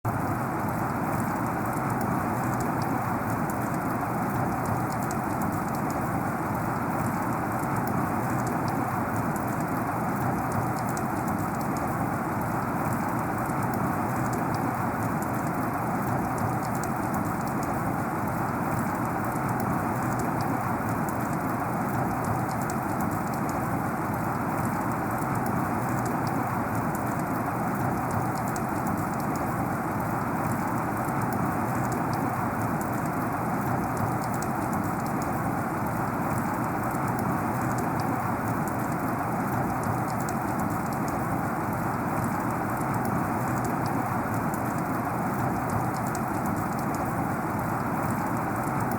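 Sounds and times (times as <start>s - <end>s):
heavy rain: 0.1s - 48.9s
raindrop ticks: 0.1s - 48.9s.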